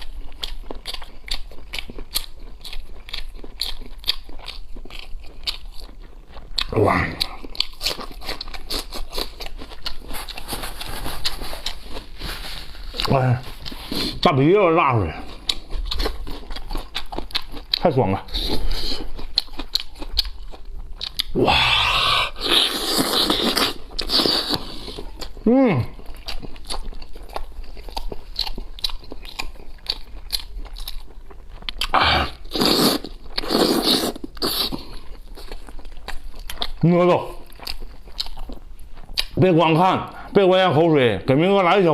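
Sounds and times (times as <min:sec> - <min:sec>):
man chewing with wet smacks: 0:00.0 - 0:14.4, 0:15.0 - 0:21.6, 0:22.2 - 0:39.4.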